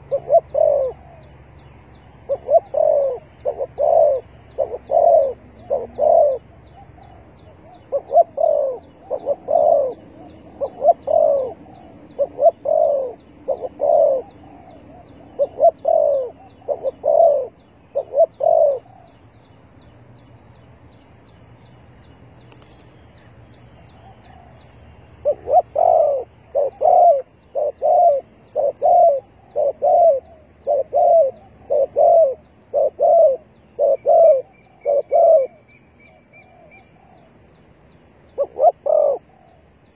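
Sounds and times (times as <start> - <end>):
dove cooing: 0.0 - 19.3, 23.8 - 37.5, 38.3 - 39.9.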